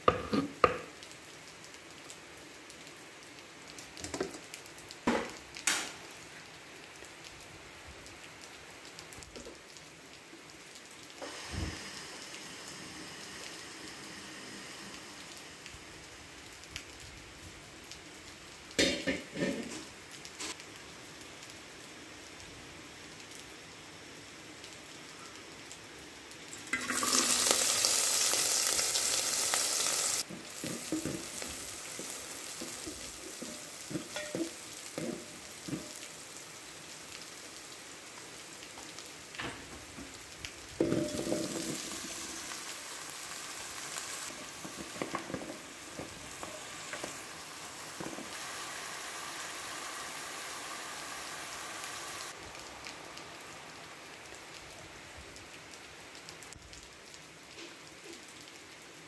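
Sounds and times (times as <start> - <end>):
onions sizzling in a pot: 0.0 - 7.0, 11.2 - 24.4, 26.4 - 54.5.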